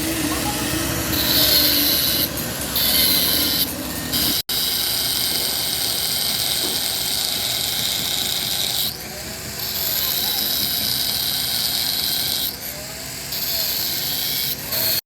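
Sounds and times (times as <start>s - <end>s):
loud hissing machine noise: 0.0s - 15.0s.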